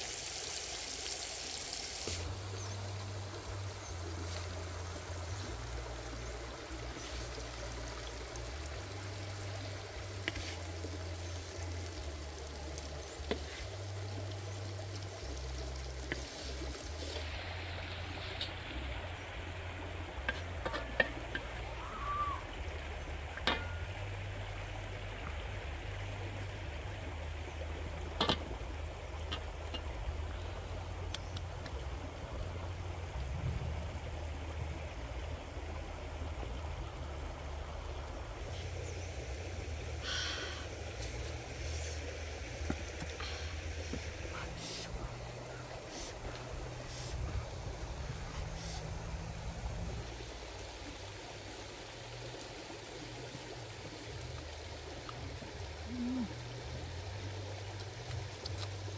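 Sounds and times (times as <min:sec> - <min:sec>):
steady hiss with low rumble: 0:00.0 - 0:58.9.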